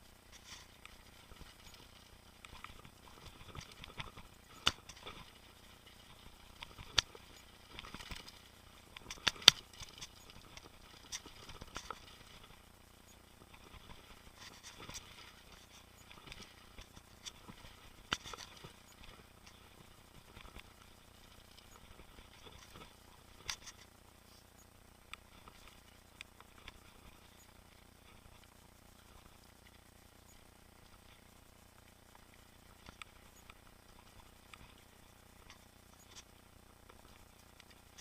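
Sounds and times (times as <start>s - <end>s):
bike tyres rattling on trail: 0.0s - 38.0s.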